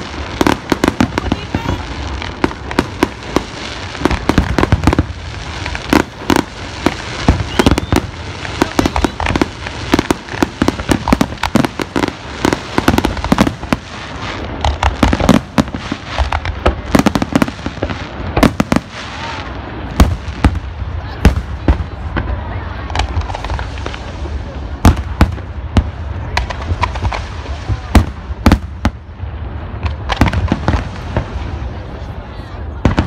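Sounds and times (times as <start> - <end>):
fireworks bursting with sharp bangs: 0.0 - 33.0.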